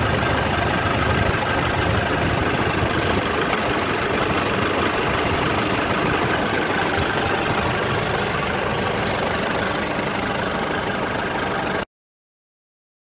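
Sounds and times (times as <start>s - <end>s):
diesel truck engine idling: 0.0s - 11.9s.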